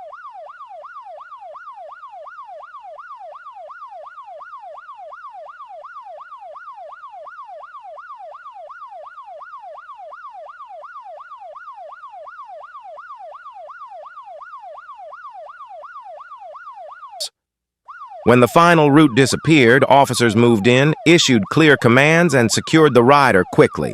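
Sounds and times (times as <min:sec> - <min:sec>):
police siren yelping: 0:00.0 - 0:17.3, 0:17.9 - 0:23.9.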